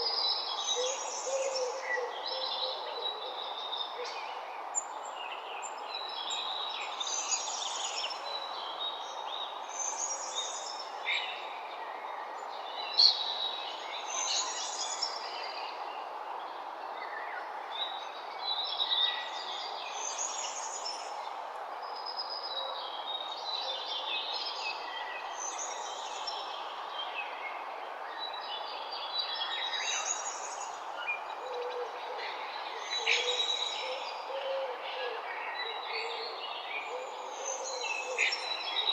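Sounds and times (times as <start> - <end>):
steady background hiss: 0.2 - 38.9.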